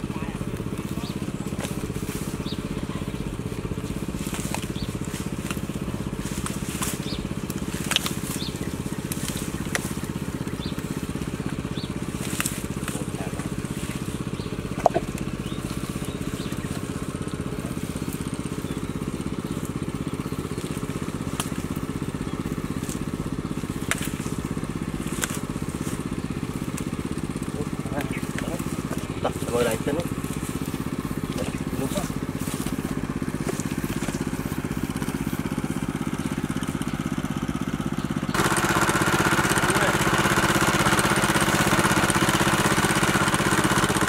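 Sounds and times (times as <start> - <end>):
grass and mud crackling: 0.0 - 44.0
small engine running: 0.0 - 44.0.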